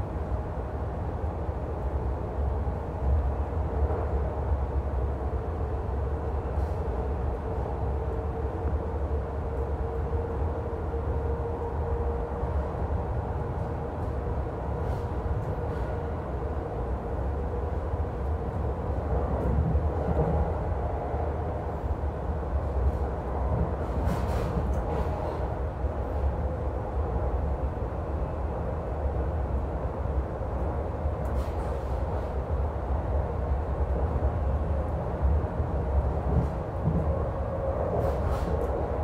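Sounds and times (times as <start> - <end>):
train coach rumble: 0.0 - 39.0.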